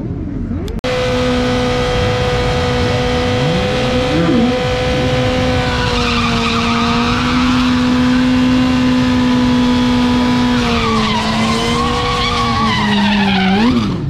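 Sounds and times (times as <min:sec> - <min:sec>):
motorcycle engine at high revs: 0:00.5 - 0:14.0.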